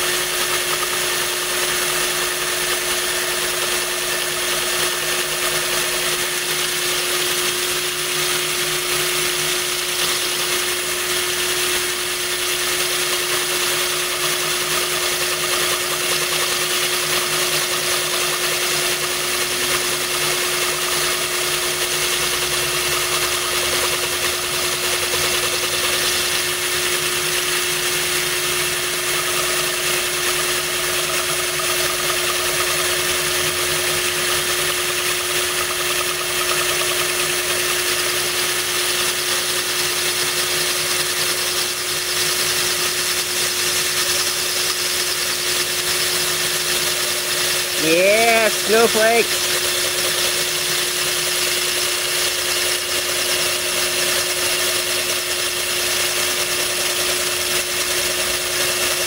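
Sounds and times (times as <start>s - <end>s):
drill motor whine: 0.0s - 59.0s.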